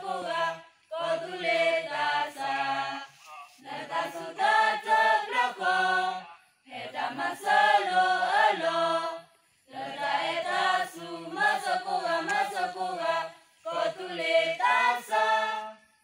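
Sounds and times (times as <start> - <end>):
group singing in unison: 0.0 - 16.0.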